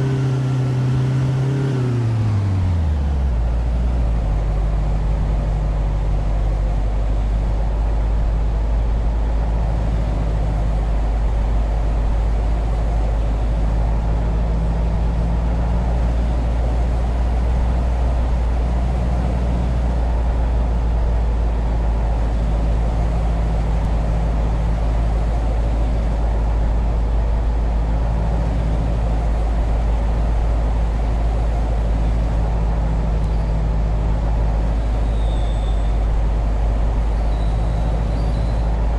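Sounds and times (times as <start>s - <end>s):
heavy vehicle engine rumble: 0.0s - 38.9s.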